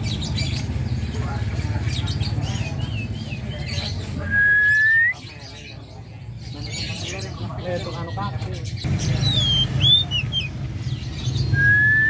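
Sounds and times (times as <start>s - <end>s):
crowd chatter: 0.0s - 12.0s
songbirds chirping and trilling: 0.0s - 12.0s.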